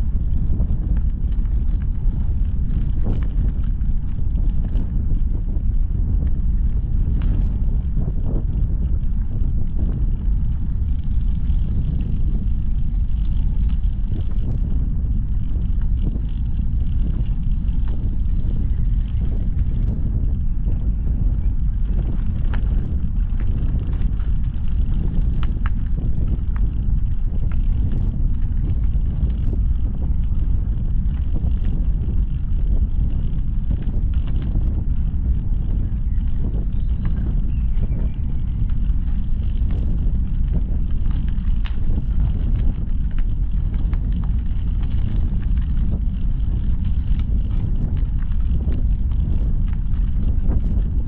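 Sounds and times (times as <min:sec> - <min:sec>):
bicycle tyres rolling over gravel: 0:00.0 - 0:51.0
wind buffeting microphone: 0:00.0 - 0:51.0.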